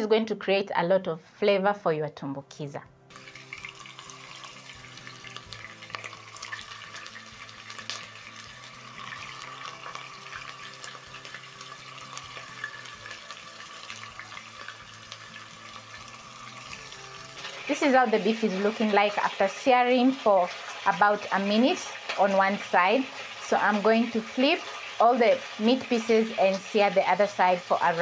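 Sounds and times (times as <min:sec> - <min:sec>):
meat searing in hot oil: 0:03.1 - 0:28.0.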